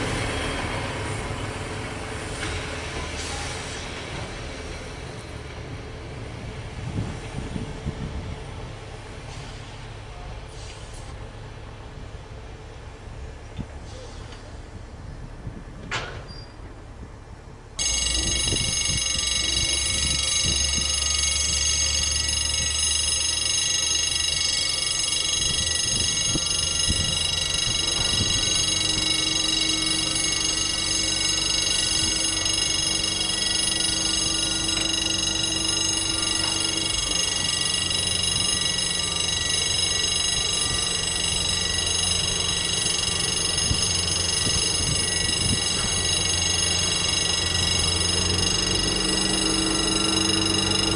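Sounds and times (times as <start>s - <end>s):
diesel locomotive engine hum: 0.0s - 50.9s.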